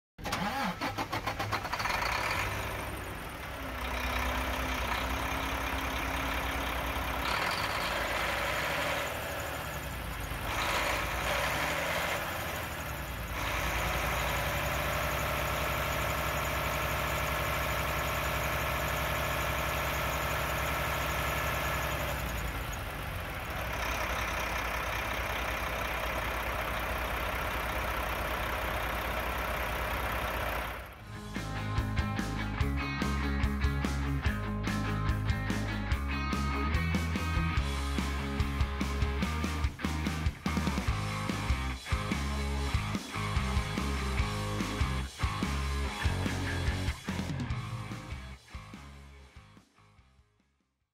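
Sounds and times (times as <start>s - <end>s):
diesel truck engine revving: 0.2s - 49.2s.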